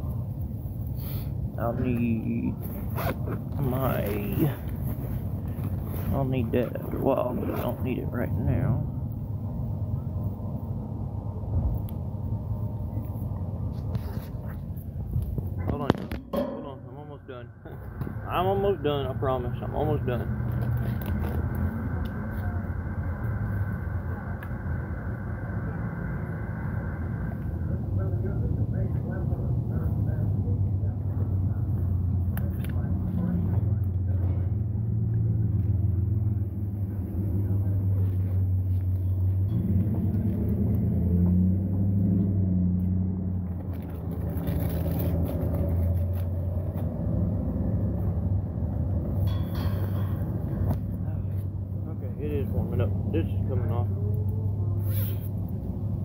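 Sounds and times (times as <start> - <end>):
low rumbling: 0.0 - 56.0.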